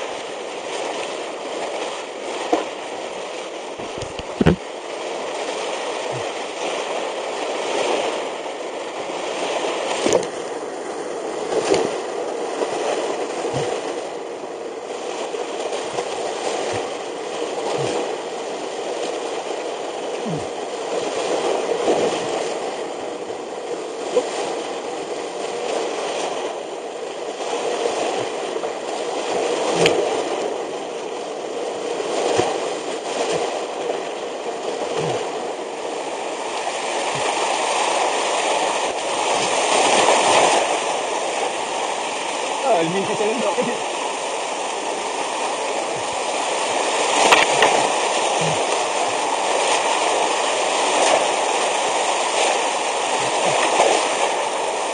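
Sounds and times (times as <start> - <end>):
knocks and splashes: 0.0 - 14.2, 14.9 - 22.8, 27.3 - 44.4, 45.0 - 54.9
whitewater rapids rushing: 0.0 - 54.9.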